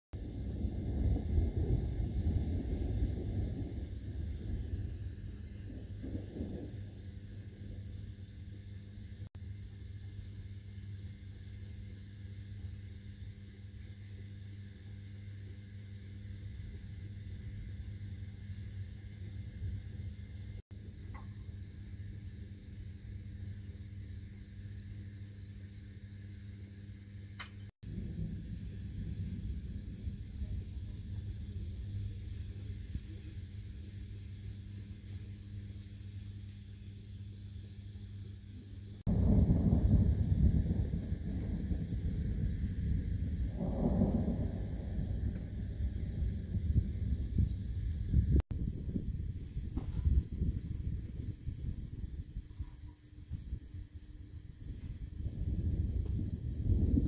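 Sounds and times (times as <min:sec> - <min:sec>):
crickets trilling: 0:00.2 - 0:57.0.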